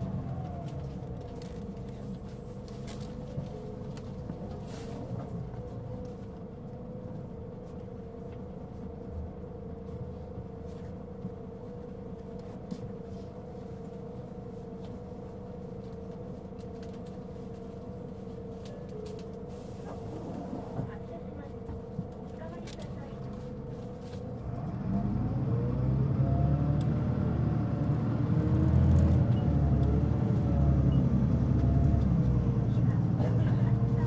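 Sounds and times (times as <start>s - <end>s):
bus drivetrain rumble and whine: 0.0s - 34.0s.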